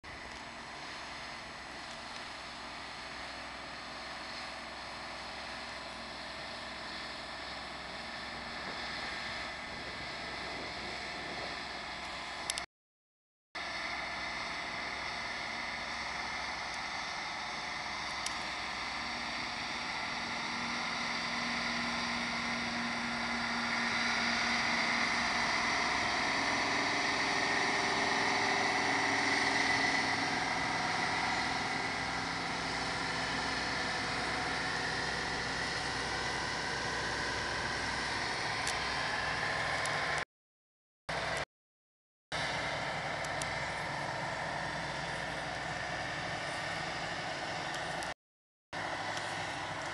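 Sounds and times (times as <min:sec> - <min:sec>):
heavy truck diesel engines: 0:00.1 - 0:12.7, 0:13.6 - 0:40.2, 0:41.1 - 0:41.5, 0:42.3 - 0:48.2, 0:48.8 - 0:49.9.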